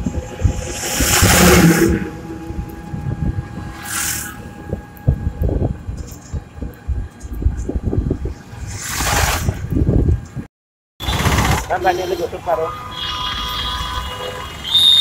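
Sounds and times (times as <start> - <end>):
auto-rickshaw rattling rumble: 0.0 - 10.3, 11.0 - 15.0.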